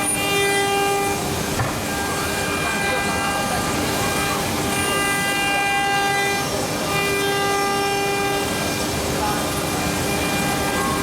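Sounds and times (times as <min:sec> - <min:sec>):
router cutting noise: 0:00.0 - 0:11.0
wood carving router whining: 0:00.0 - 0:11.0.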